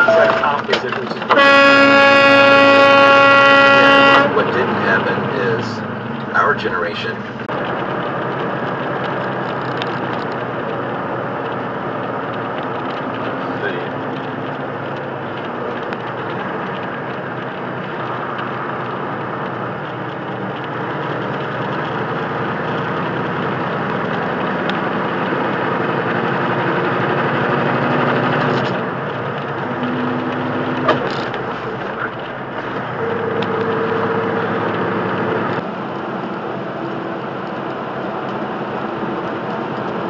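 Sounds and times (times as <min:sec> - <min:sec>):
truck engine and road noise: 0:00.0 - 0:40.0.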